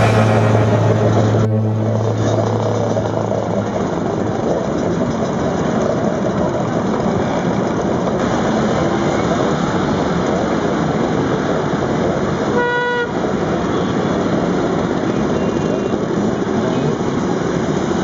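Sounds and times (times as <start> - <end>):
scooter engines running: 0.0 - 18.0.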